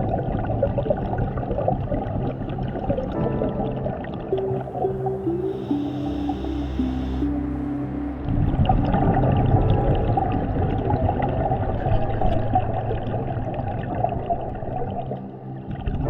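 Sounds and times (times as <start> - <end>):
underwater bubbling and gurgling: 0.0 - 16.0.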